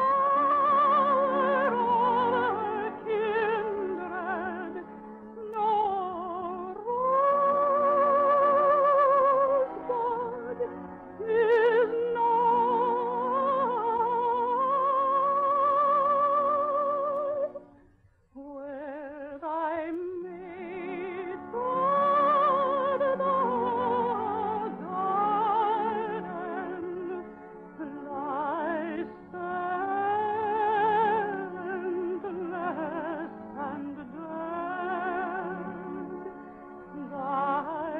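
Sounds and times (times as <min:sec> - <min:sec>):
soprano singing with vibrato: 0:00.0 - 0:17.6, 0:18.4 - 0:27.2, 0:27.8 - 0:36.2, 0:36.9 - 0:37.9
soft orchestral accompaniment: 0:00.0 - 0:37.9.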